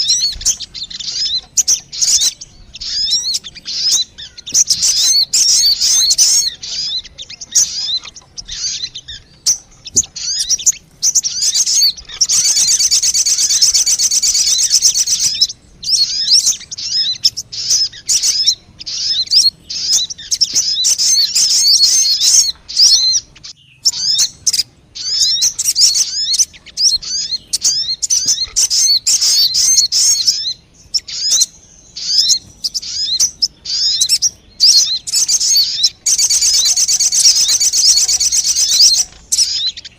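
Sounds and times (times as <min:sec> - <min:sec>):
bird high-pitched chirps: 0:00.0 - 0:39.9
bird trill: 0:00.0 - 0:39.9.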